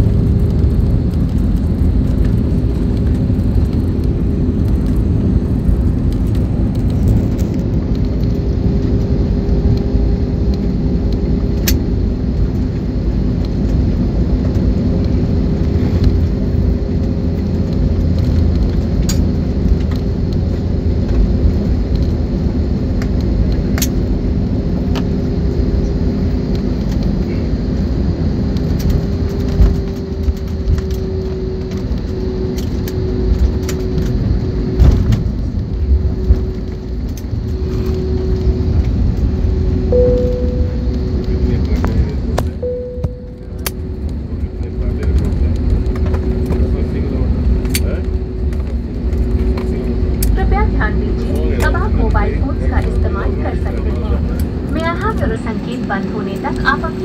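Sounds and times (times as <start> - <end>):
even hum: 0.0 - 57.0
jet engine and wheel rumble: 0.0 - 57.0.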